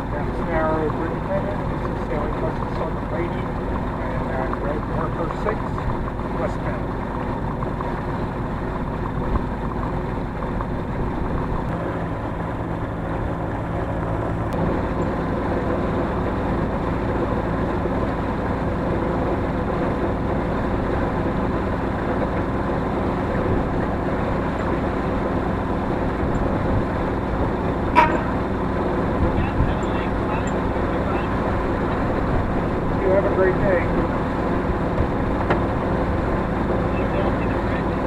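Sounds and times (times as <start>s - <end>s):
engine droning: 0.0s - 38.0s.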